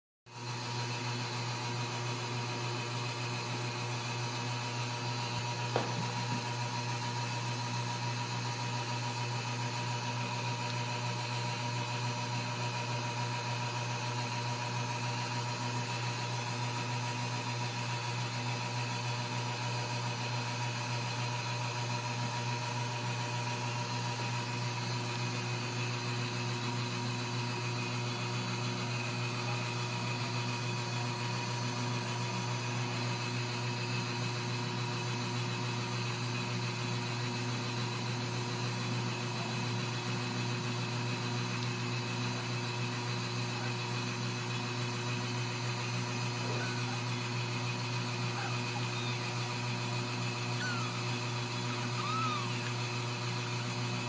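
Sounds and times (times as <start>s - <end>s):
low mechanical hum: 0.4s - 54.0s.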